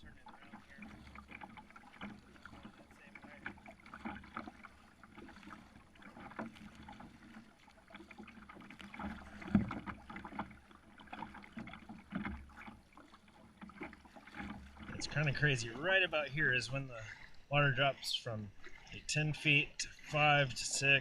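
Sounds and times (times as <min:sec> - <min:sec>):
water lapping against kayak hull: 0:00.0 - 0:21.0.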